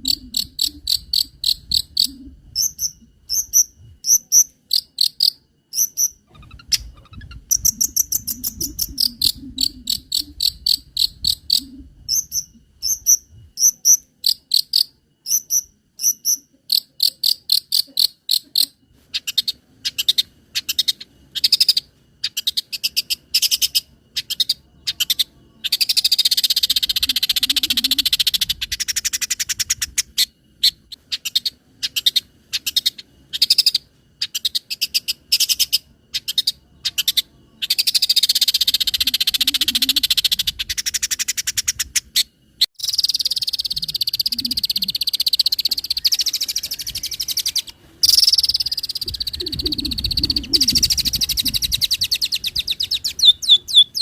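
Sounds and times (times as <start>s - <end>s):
shrike singing chattering trills: 0.0s - 54.0s.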